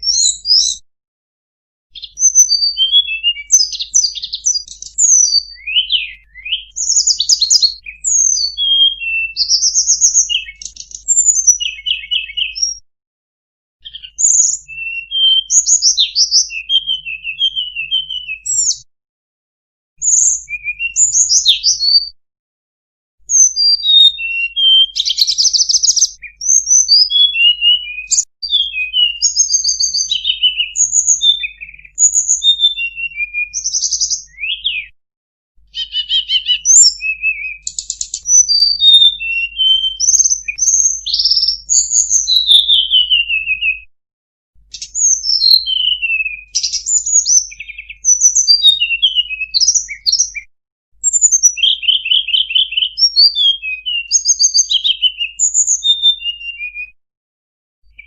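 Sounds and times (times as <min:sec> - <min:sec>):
bird chirps and trills: 0:00.0 - 0:00.8, 0:02.0 - 0:12.8, 0:13.8 - 0:18.8, 0:20.0 - 0:22.1, 0:23.3 - 0:34.9, 0:35.7 - 0:43.8, 0:44.7 - 0:50.4, 0:51.0 - 0:56.8.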